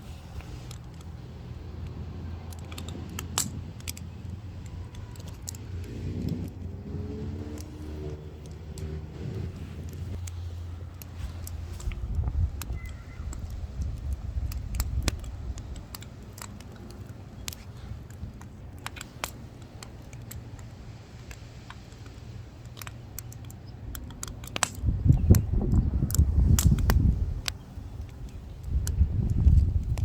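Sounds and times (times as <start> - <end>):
wind rumble on microphone: 0.0 - 21.4, 23.5 - 30.0
firewood crackling and popping: 0.0 - 30.0.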